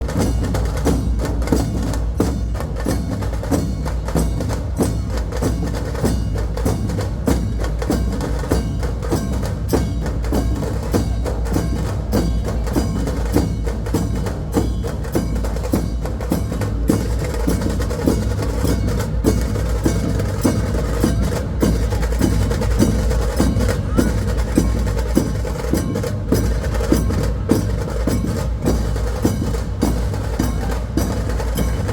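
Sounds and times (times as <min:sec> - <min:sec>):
dhol barrel drums: 0:00.0 - 0:31.9
rapid tasha drum strokes: 0:00.0 - 0:31.9.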